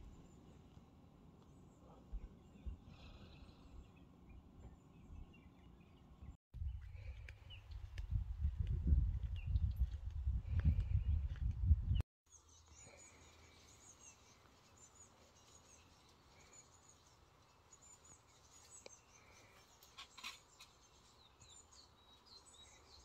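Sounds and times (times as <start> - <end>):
birds chirping: 0.0 - 8.2, 10.4 - 23.0.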